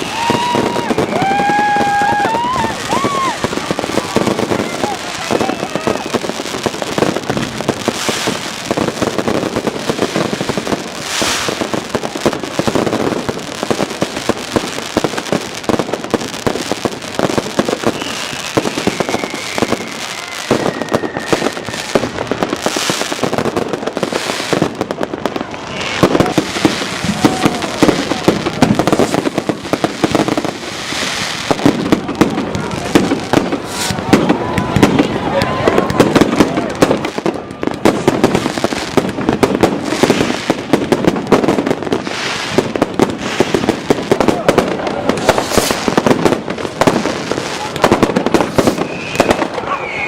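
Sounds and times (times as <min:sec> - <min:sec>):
fireworks crackling and banging: 0:00.0 - 0:50.0
whistling firework: 0:00.0 - 0:50.0.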